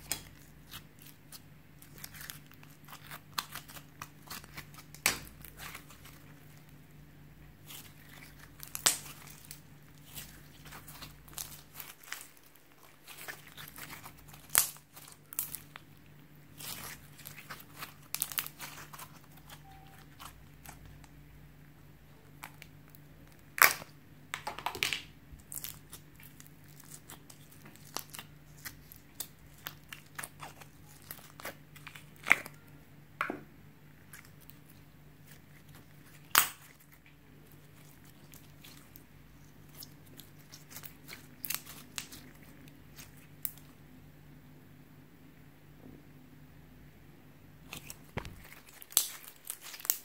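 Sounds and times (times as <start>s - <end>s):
slime popping and crackling: 0.0s - 6.9s, 7.6s - 21.2s, 22.2s - 32.6s, 34.0s - 43.7s, 47.6s - 50.0s
faint steady hum: 0.0s - 50.0s.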